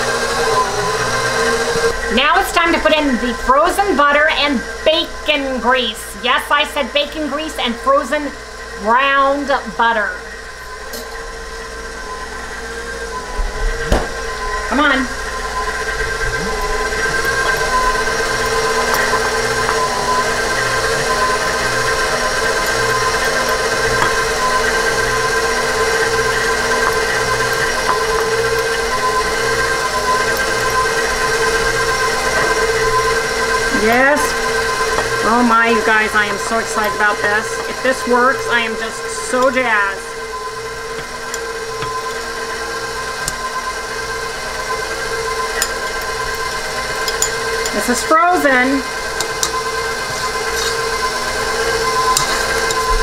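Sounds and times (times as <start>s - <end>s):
stand mixer motor whirring: 0.0s - 53.0s.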